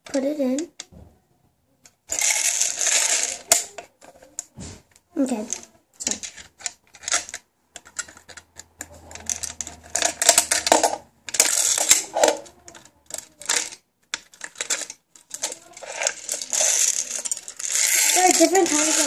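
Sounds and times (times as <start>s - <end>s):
candy machine clicking and rattling: 2.0s - 4.4s, 5.2s - 19.0s.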